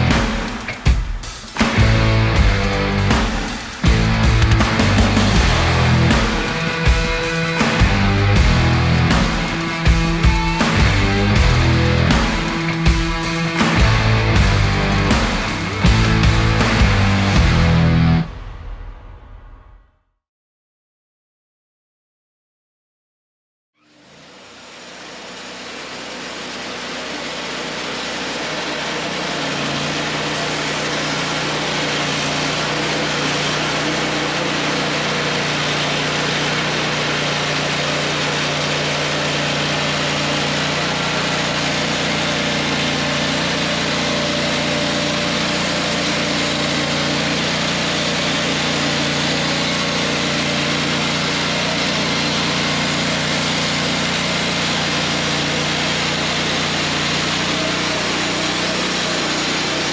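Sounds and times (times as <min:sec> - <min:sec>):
band sawmill sawing log: 0:01.6 - 0:17.8, 0:23.8 - 0:59.9.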